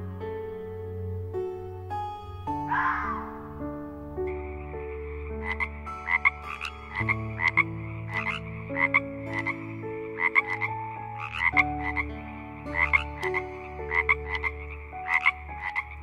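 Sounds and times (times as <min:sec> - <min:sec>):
background music: 0:00.0 - 0:16.0
frogs croaking: 0:00.0 - 0:16.0.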